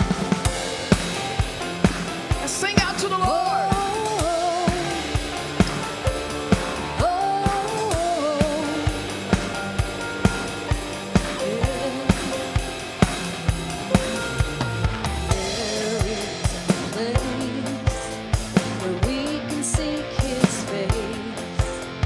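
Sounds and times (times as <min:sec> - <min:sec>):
drum kit beat: 0:00.0 - 0:22.0
worship band playing: 0:00.0 - 0:22.0.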